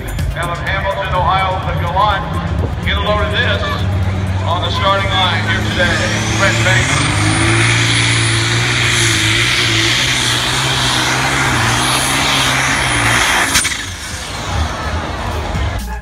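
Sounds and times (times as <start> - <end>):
engine running at high revs: 0.0 - 16.0.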